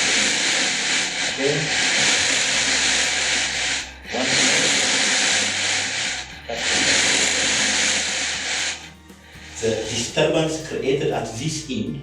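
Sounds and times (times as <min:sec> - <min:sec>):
metal slinky rasping hiss: 0:00.0 - 0:10.7.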